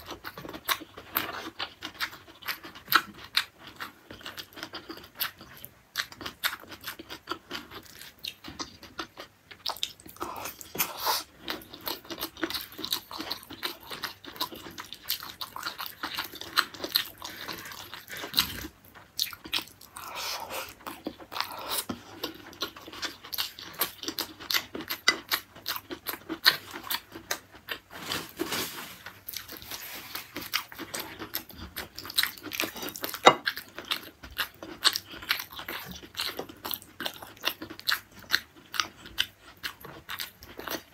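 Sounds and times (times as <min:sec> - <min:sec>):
chewing with wet clicks and smacks: 0:00.0 - 0:27.9, 0:30.3 - 0:40.9.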